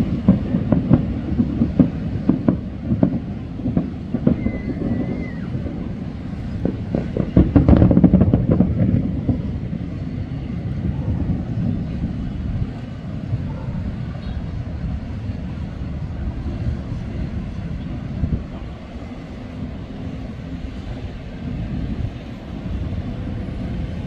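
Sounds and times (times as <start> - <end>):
distant fireworks booming: 0.0 - 24.0.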